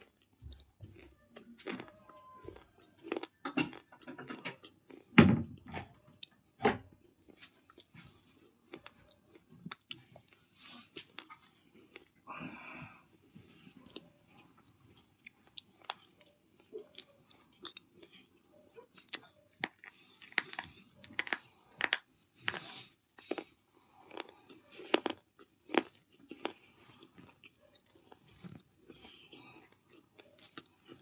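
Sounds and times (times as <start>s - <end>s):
crunching and chewing clay: 0.0s - 31.0s.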